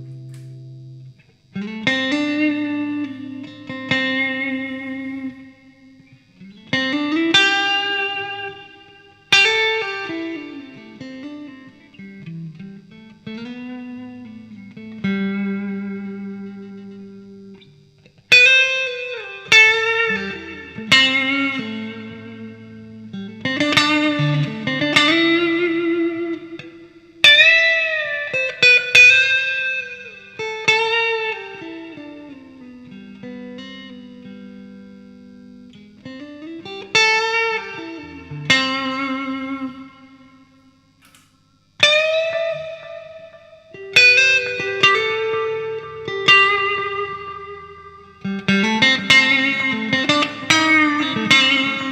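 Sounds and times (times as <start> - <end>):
electric guitar notes and chords: 0.0 - 51.9.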